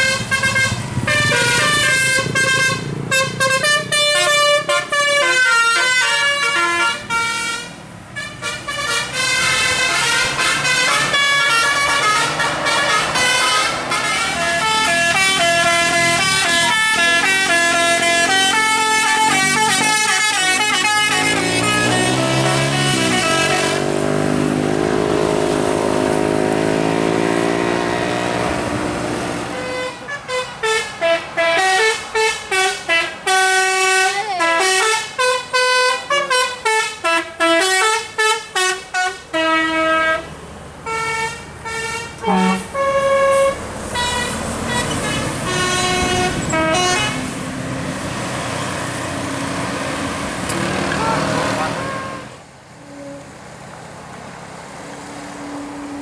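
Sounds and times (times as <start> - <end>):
multi-tone bus air horns: 0.0 - 49.2, 50.4 - 53.4.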